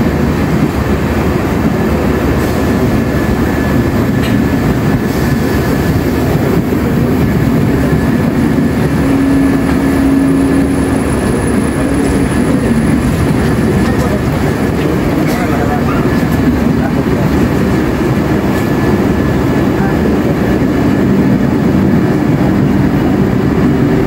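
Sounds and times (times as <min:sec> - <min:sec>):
steady hum: 0:00.0 - 0:24.0
train wheels rumbling on rails: 0:00.0 - 0:24.0.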